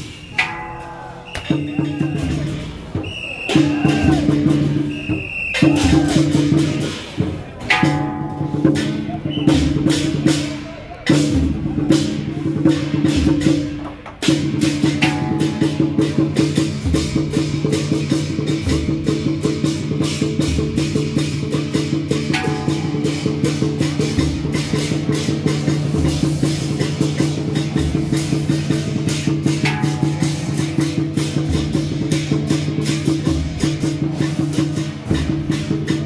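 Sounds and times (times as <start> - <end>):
rapid clacking percussion: 0.0 - 36.0
deep drum beat: 0.4 - 36.0.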